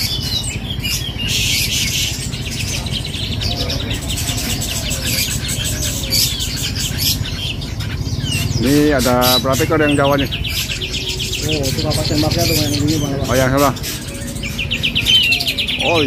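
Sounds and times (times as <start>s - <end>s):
low market rumble: 0.0s - 16.0s
songbird rapid high notes: 0.0s - 16.0s
songbirds warbling: 0.0s - 16.0s.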